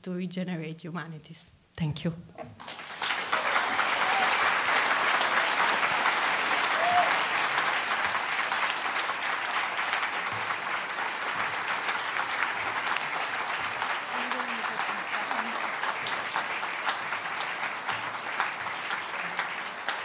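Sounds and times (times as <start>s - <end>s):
audience applauding: 2.6s - 20.0s.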